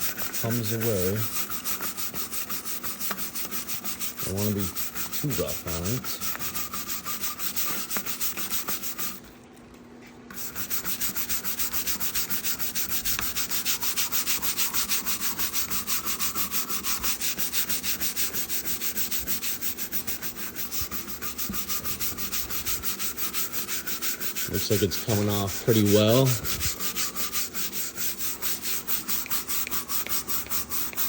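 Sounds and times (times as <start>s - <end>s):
brush scrubbing metal door: 0.0s - 9.2s, 10.3s - 31.0s.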